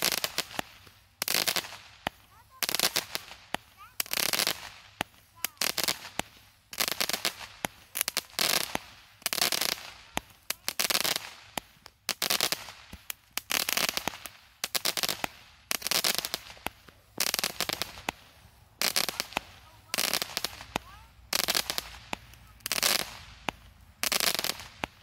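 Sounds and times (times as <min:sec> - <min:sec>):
fireworks bangs and pops: 0:00.0 - 0:25.0.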